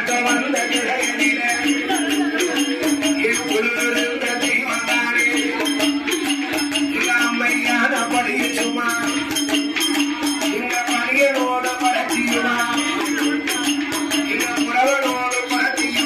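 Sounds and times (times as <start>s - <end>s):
jingling bells and percussion: 0.0s - 16.0s.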